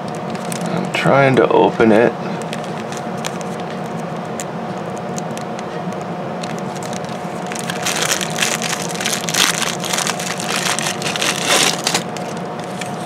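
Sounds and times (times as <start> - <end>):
plastic bag crinkling: 0.0 - 0.9, 2.3 - 5.5, 6.4 - 13.0.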